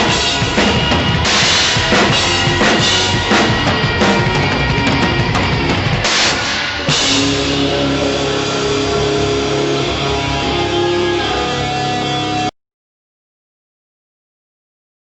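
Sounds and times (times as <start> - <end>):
drums: 0.0 - 12.5
distorted electric guitar chords: 0.0 - 12.6.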